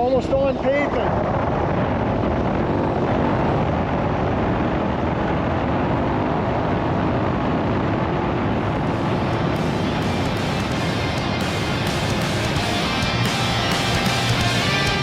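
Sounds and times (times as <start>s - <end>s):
motorcycle engine running: 1.4s - 15.0s.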